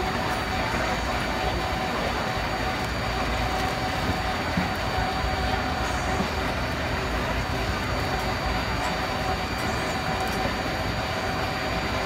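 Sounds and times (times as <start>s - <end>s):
crowd chatter: 0.0s - 12.0s
low mechanical hum: 0.0s - 12.0s.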